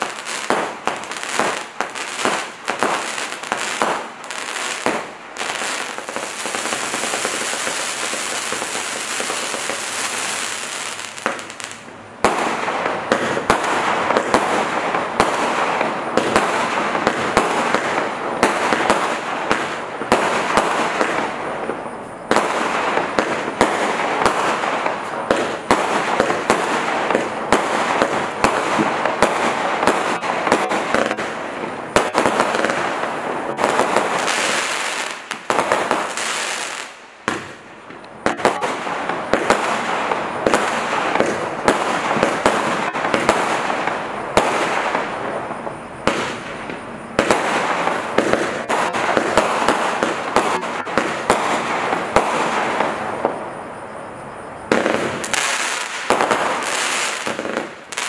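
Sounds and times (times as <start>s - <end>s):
fireworks hiss: 0.0s - 58.0s
fireworks launches and bursts: 0.0s - 58.0s.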